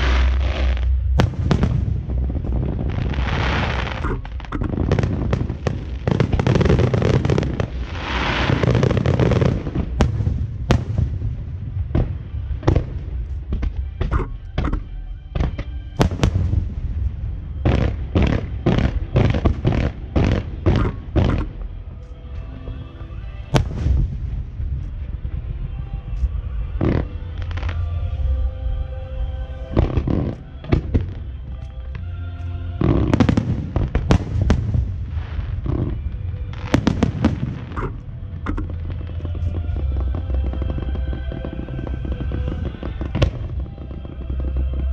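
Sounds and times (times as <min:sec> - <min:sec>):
fireworks crackling: 0:00.0 - 0:14.0, 0:15.4 - 0:21.8, 0:23.4 - 0:28.4, 0:32.8 - 0:44.9
fireworks bangs: 0:00.0 - 0:21.6, 0:23.5 - 0:27.9, 0:32.8 - 0:44.9.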